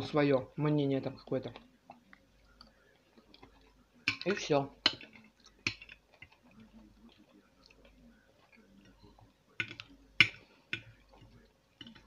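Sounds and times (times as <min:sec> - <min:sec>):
faint chewing: 0:01.2 - 0:12.0.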